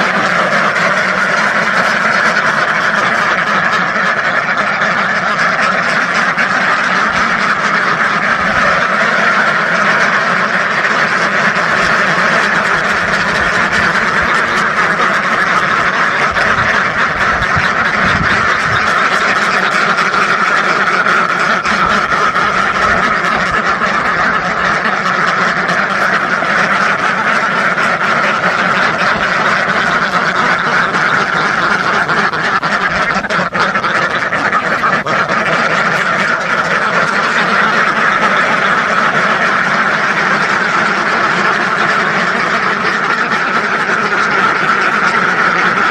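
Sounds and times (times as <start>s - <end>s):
flock of ducks quacking: 0.0s - 45.9s.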